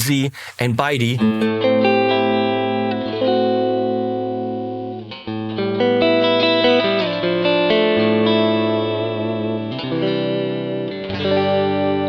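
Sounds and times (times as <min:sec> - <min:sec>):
electric guitar chords and notes: 0:01.2 - 0:12.0.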